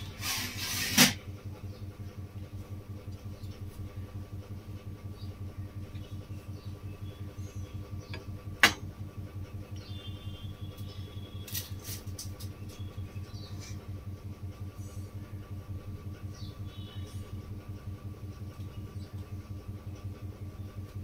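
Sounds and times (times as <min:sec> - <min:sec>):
pulsing mechanical hum: 0:00.0 - 0:21.0.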